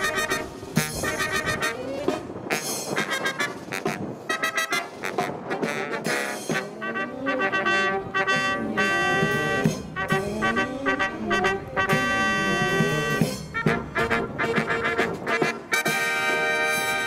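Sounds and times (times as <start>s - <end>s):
brass marching band playing: 0.0s - 17.0s.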